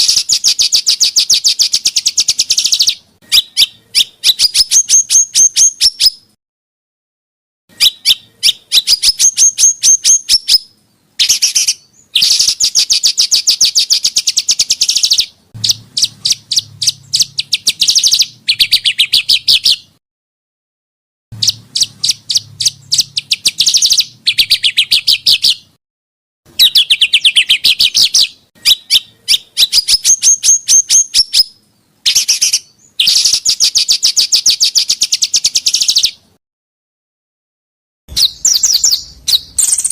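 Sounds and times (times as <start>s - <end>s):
songbird chipping song: 0.0s - 6.4s, 7.7s - 20.0s, 21.4s - 25.8s, 26.5s - 36.4s, 38.1s - 39.9s.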